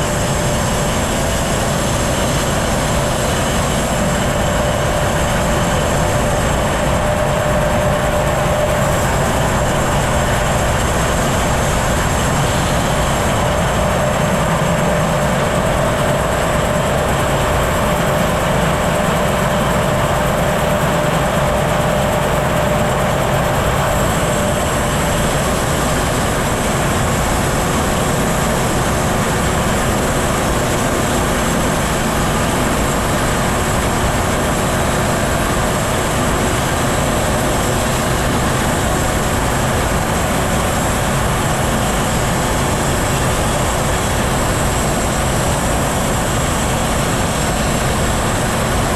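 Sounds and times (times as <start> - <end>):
bandsaw mill engine drone: 0.0 - 48.9.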